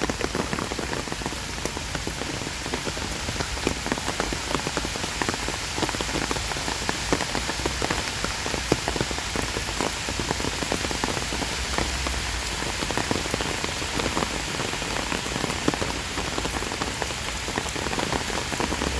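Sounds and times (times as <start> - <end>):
steady rain with drop impacts: 0.0 - 18.9.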